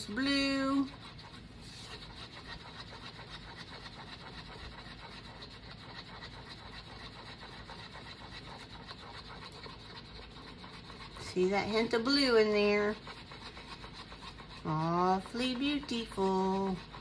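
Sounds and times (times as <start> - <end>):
stir stick scraping paper cup: 0.0 - 17.0.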